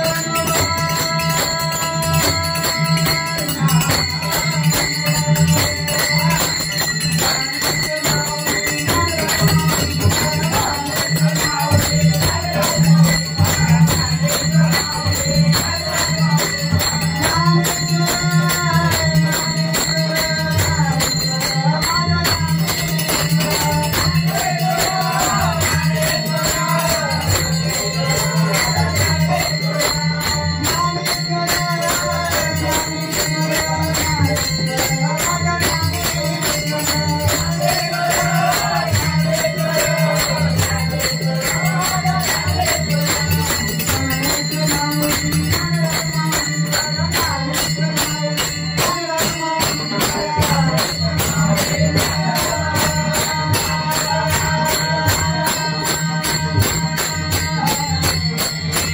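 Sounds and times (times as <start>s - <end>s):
hand cymbals clashing: 0.0s - 58.9s
men singing: 0.0s - 58.9s.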